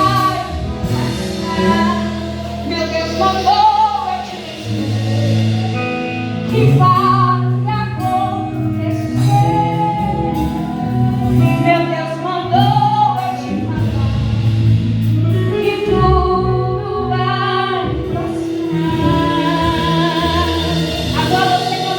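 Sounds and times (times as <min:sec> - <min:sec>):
keyboard chords: 0:00.0 - 0:21.9
low bass: 0:00.0 - 0:21.9
woman singing gospel song: 0:00.0 - 0:21.9.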